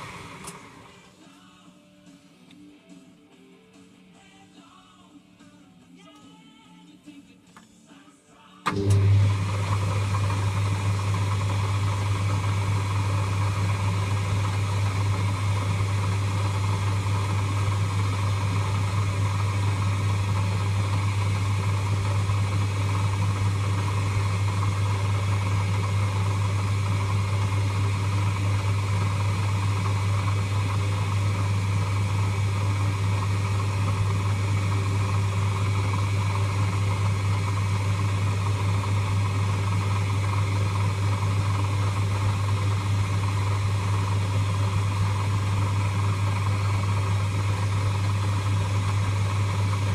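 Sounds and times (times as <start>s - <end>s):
lathe humming: 0.0s - 1.1s, 8.7s - 49.9s.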